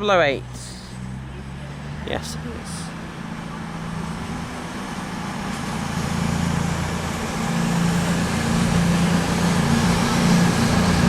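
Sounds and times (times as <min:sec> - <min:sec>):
diesel train engines droning: 0:00.0 - 0:11.0.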